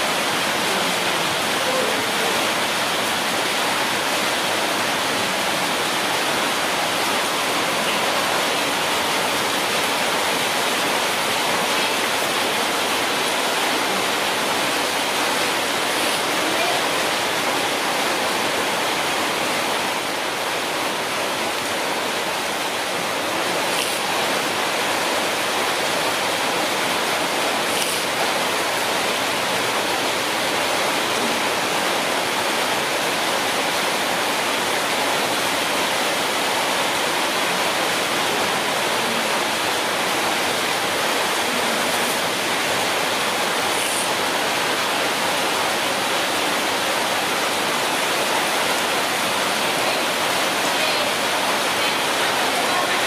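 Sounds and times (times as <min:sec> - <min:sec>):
steady rushing hiss: 0:00.0 - 0:53.0.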